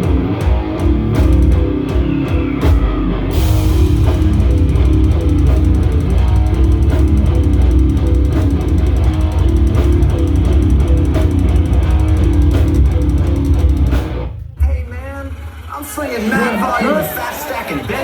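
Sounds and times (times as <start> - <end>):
bass guitar: 0.0 - 16.2
distorted guitar riff: 0.0 - 16.2
drum kit: 0.0 - 17.1.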